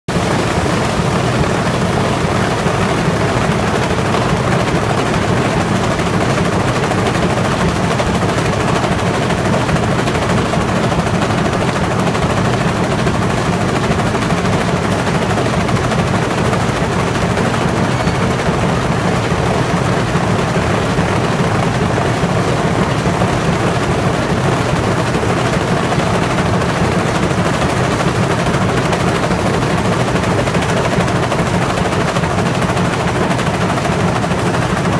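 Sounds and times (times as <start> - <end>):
machine rapid rattle: 0.1 - 34.9.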